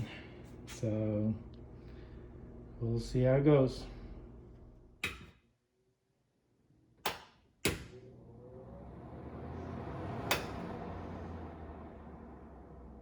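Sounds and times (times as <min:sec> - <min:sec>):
range hood whooshing hum: 0:00.0 - 0:05.3, 0:06.7 - 0:13.0.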